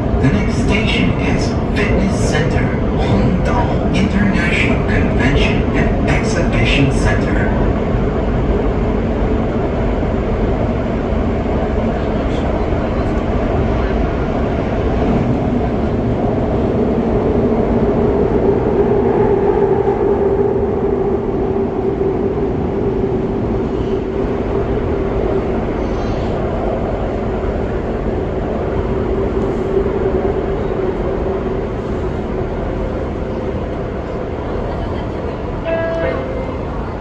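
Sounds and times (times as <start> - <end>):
train wheels rumbling: 0.0 - 37.0.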